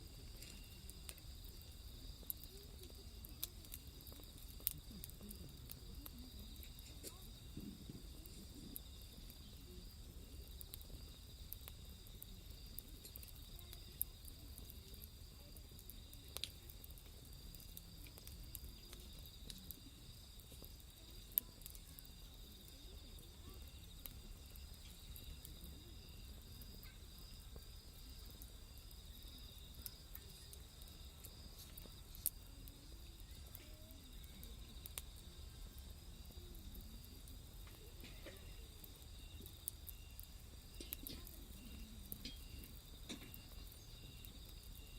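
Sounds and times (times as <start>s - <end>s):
night insects trilling: 0.0s - 44.9s
wood fire crackling and popping: 0.0s - 44.9s.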